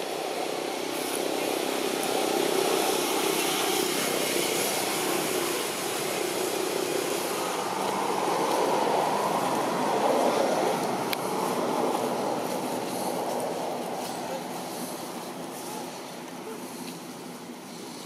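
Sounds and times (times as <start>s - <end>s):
engine drone: 0.0s - 18.0s.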